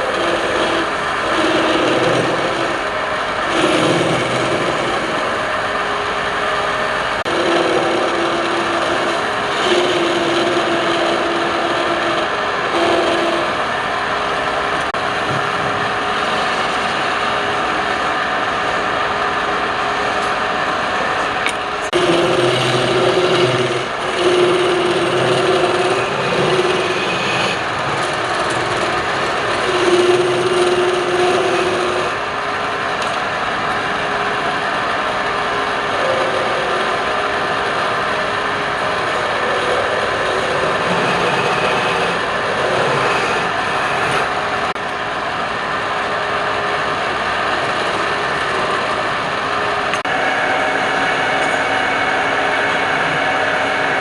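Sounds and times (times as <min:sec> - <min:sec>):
tool scraping spinning wood: 0:00.0 - 0:44.8
wood lathe humming: 0:00.0 - 0:54.0.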